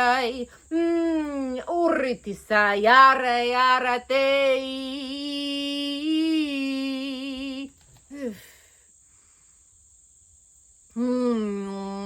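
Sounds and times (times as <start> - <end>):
faint high hiss: 0.0 - 12.0.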